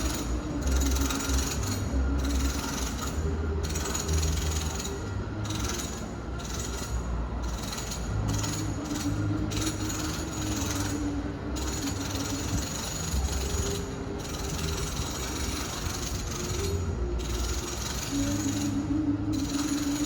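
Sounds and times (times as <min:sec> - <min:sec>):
power tool humming and rattling: 0:00.0 - 0:20.0.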